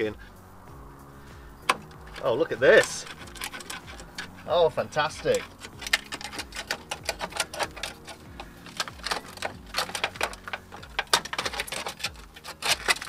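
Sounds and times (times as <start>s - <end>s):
metallic clicks and clinks: 1.6s - 13.0s.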